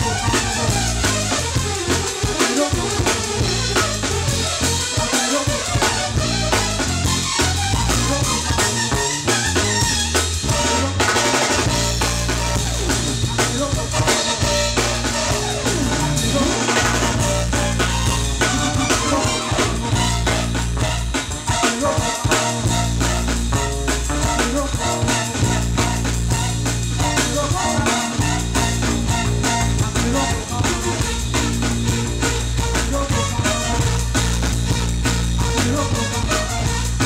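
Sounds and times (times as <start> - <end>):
busy drum kit: 0.0 - 37.0
held bass notes: 0.0 - 37.0
live jazz band playing: 0.0 - 37.0.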